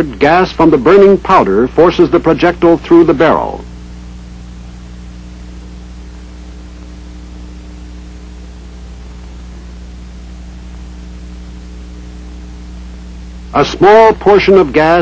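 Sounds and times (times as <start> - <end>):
film soundtrack hiss: 0.0 - 15.0
low hum: 0.0 - 15.0.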